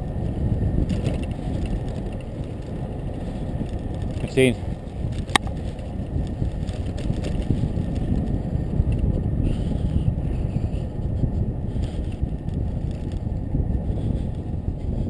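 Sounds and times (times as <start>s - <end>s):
bicycle tyres rolling on asphalt: 0.0s - 15.0s
wind rumble on microphone: 0.0s - 15.0s.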